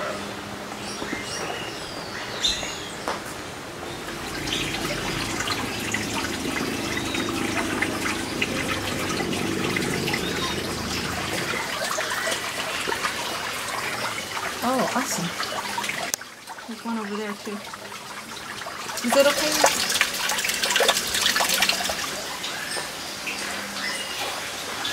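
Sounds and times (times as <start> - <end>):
water trickling and splashing: 0.0 - 24.9.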